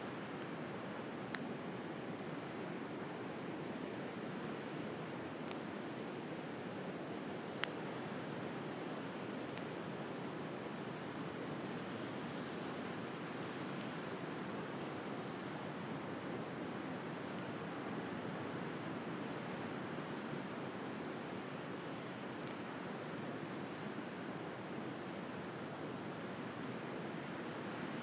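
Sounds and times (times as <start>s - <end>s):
wood fire crackling: 0.2s - 14.0s, 14.6s - 25.2s, 26.1s - 28.0s.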